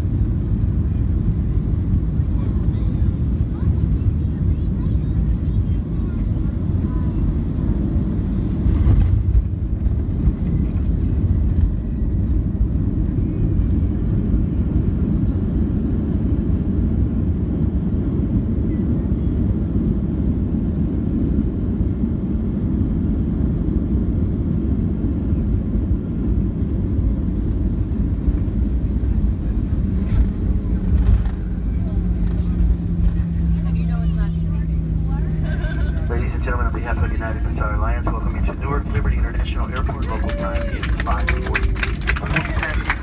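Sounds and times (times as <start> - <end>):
jet engines rumbling in cabin: 0.0 - 43.0.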